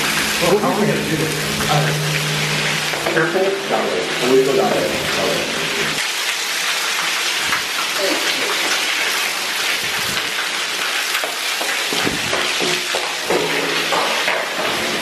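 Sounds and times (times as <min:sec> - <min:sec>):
water rushing through tunnel: 0:00.0 - 0:15.0.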